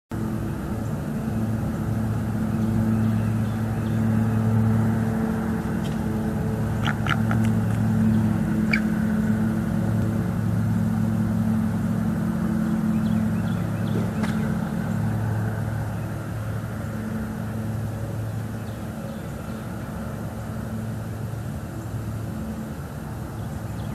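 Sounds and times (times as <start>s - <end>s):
low engine drone: 0.1s - 23.9s.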